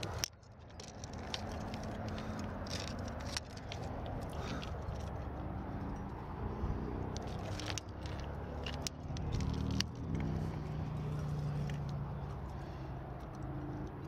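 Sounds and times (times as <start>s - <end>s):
metal carabiners clicking and jangling: 0.0s - 14.0s
vehicle engine droning: 0.0s - 14.0s.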